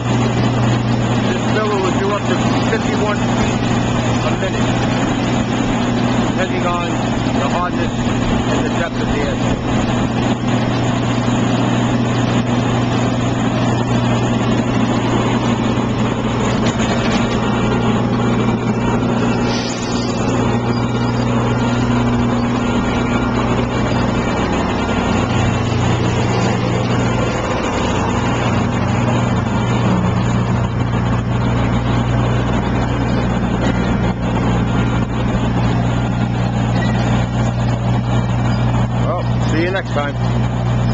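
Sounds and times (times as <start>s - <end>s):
cutter drum grinding asphalt: 0.0s - 40.9s
droning diesel engine: 0.0s - 40.9s.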